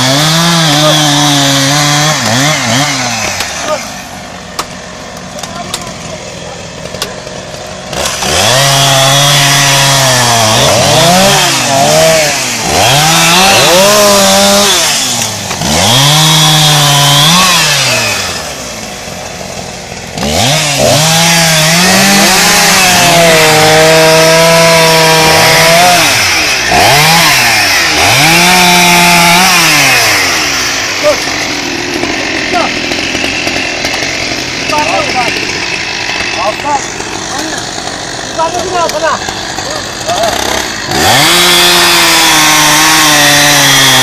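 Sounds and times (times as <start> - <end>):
chainsaws cutting wood: 0.0 - 44.0.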